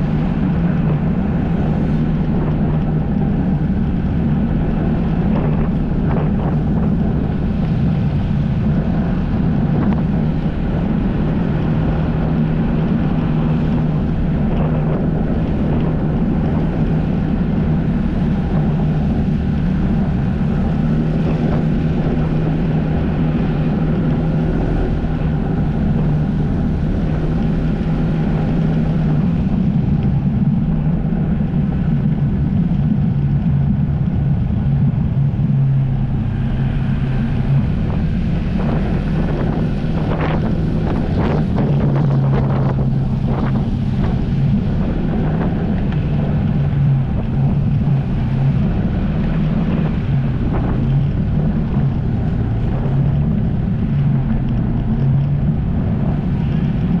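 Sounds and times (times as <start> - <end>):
jet ski engine running: 0.0 - 57.0
water noise: 0.0 - 57.0
wind noise: 0.0 - 57.0.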